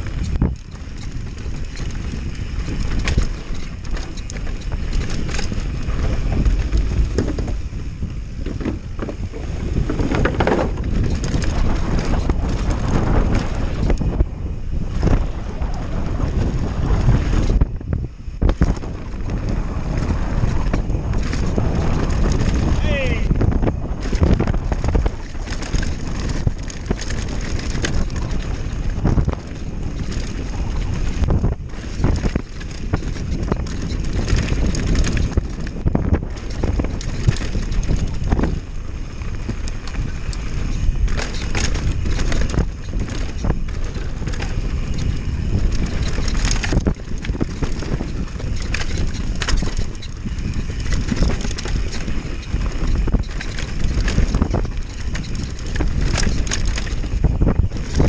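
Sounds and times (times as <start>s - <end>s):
bike knocking and rattling: 0.0s - 58.0s
tyres on loose dirt: 0.0s - 58.0s
wind buffeting microphone: 0.0s - 58.0s.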